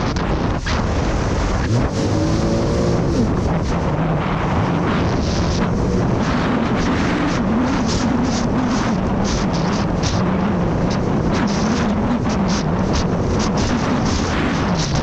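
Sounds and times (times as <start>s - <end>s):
jet ski engine running: 0.0s - 15.0s
wind noise on microphone: 0.0s - 15.0s.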